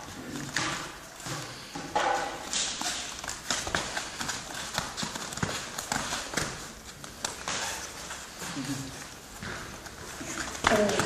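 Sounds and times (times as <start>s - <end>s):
bare feet on mat: 0.0s - 11.0s.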